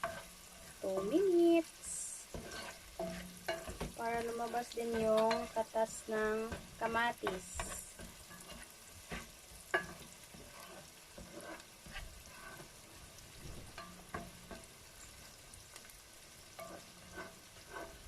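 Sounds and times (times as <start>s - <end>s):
tomatoes sizzling in a pan: 0.0s - 18.0s.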